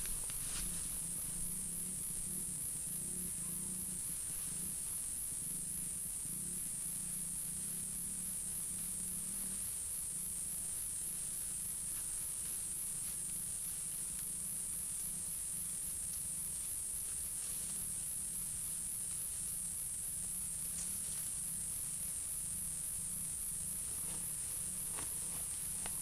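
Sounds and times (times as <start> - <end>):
insects chirping: 0.0 - 26.0
steady low hum: 0.0 - 26.0.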